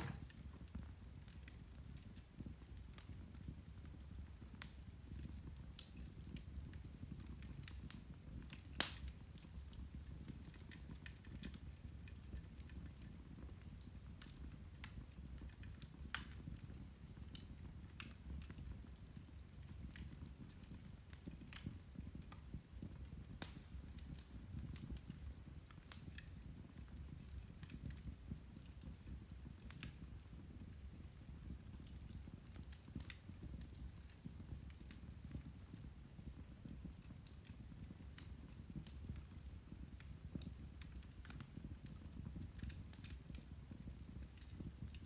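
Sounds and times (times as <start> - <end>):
peat fire crackling and popping: 0.0 - 45.0.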